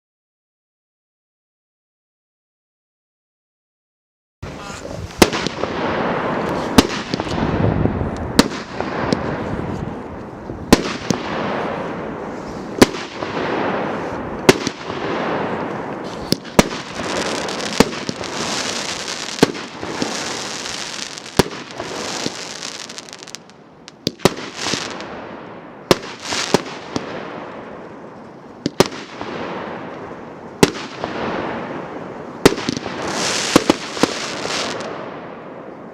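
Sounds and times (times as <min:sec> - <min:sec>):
firework hiss and crackle: 0:04.5 - 0:25.2, 0:25.9 - 0:35.1
fireworks bangs: 0:04.5 - 0:35.9.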